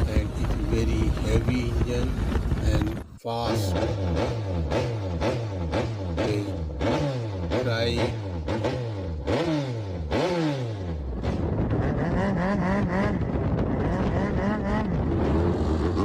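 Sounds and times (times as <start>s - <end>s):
speedboat engine revving: 0.0s - 16.0s.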